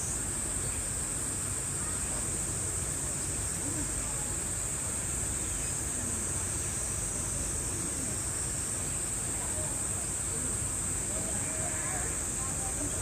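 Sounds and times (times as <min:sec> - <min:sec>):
insect chorus drone: 0:00.0 - 0:13.0
murmur of voices: 0:01.7 - 0:13.0.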